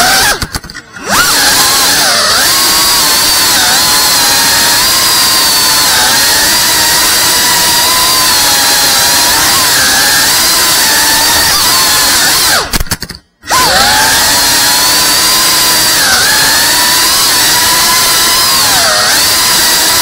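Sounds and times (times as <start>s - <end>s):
quadcopter motors whining: 0.0s - 12.8s, 13.4s - 20.0s.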